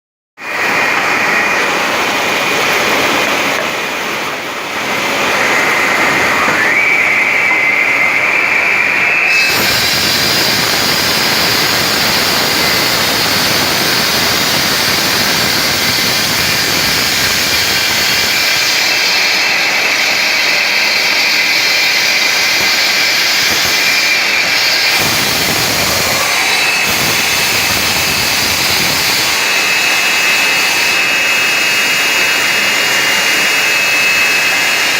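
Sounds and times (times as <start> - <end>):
stone-cutting machine whining: 0.4 - 34.9.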